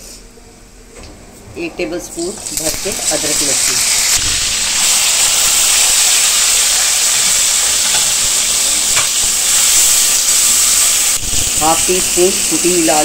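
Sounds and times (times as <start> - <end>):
food sizzling in hot oil: 2.2 - 13.0.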